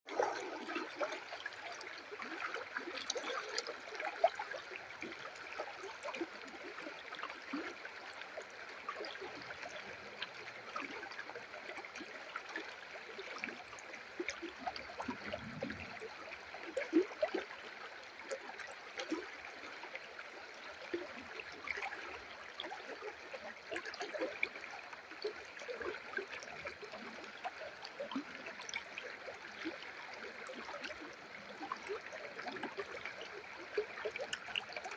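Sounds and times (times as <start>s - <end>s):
river water flowing: 0.1s - 34.9s
small water splashes: 0.1s - 34.9s.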